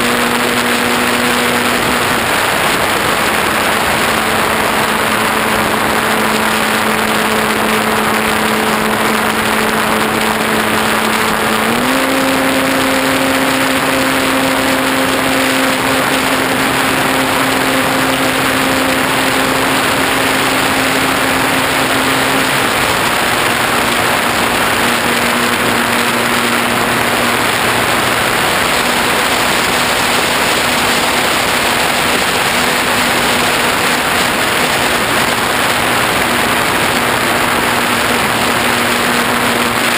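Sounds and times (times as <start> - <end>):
airflow rushing over camera: 0.0 - 39.9
electric motor and propeller hum: 0.0 - 39.9.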